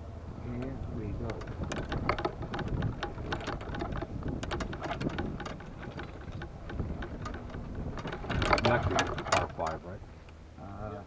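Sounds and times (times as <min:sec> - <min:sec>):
golf cart low rumble: 0:00.0 - 0:11.0.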